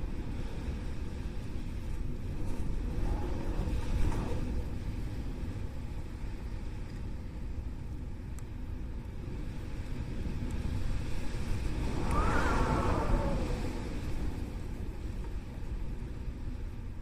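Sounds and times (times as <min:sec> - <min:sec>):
howling wind: 0:00.0 - 0:17.0.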